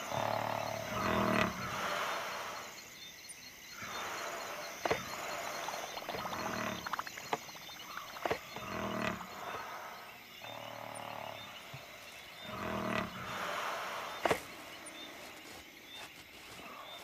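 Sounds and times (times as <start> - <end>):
elephants snoring: 0.0 - 15.3.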